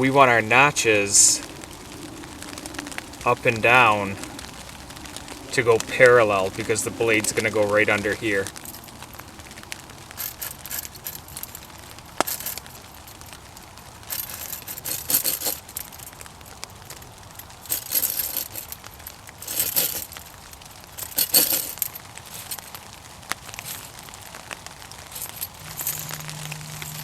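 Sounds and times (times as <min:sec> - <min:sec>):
light metallic clinking: 0:00.6 - 0:27.0.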